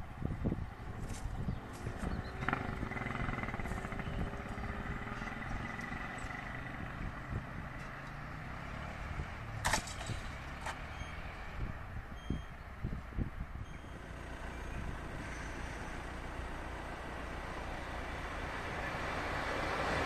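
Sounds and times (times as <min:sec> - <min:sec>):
low road traffic rumble: 0:00.0 - 0:20.0.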